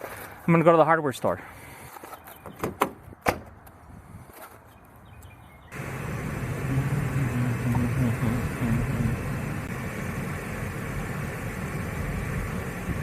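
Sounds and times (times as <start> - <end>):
car engine and road noise: 2.0 - 13.0.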